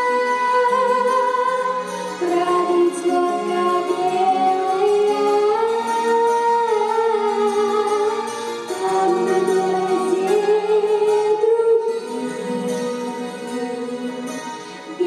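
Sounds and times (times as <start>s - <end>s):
boy singing into a microphone: 0.0s - 15.0s
instrumental backing track: 0.0s - 15.0s.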